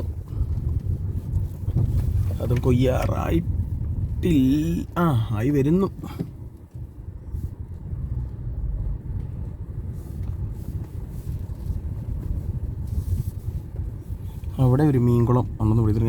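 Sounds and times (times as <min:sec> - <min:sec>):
vehicle rumbling along a road: 0:00.0 - 0:16.0.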